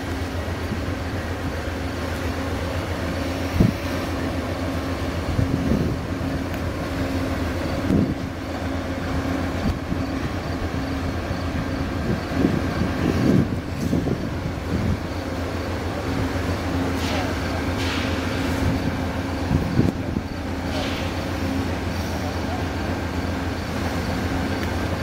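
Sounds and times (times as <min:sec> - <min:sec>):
train idling hum: 0:00.0 - 0:25.0.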